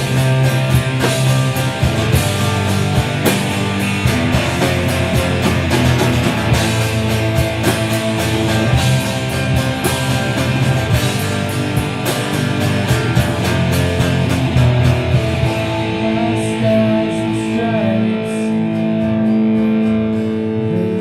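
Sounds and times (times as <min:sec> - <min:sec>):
instrumental rock music: 0:00.0 - 0:21.0.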